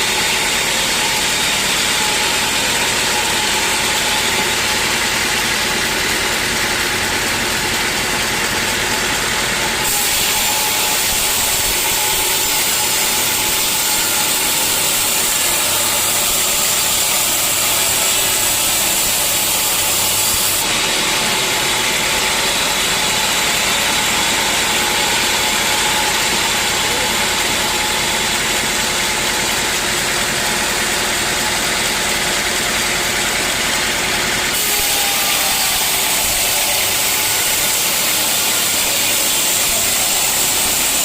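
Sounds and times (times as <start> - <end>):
saw blade cutting log: 0.0 - 41.0
sawmill saw running: 0.0 - 41.0.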